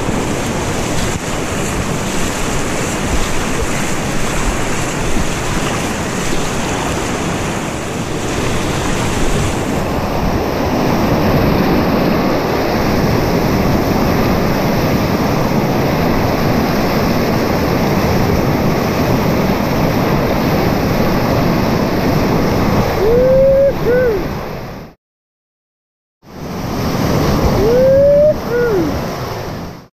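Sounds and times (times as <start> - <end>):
whitewater rushing and splashing: 0.0 - 24.9, 26.3 - 29.9.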